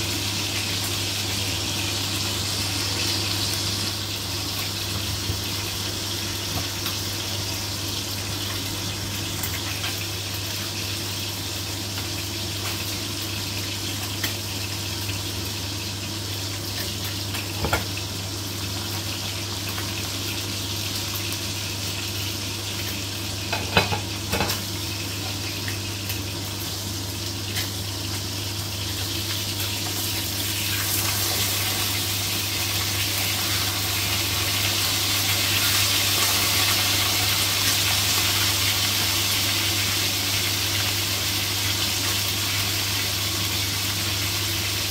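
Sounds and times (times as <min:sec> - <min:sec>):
meat sizzling in oil: 0:00.0 - 0:44.9.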